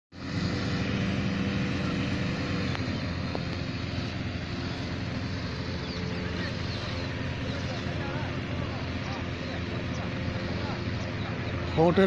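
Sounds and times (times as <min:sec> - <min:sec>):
engine-driven fans running: 0:00.1 - 0:12.0.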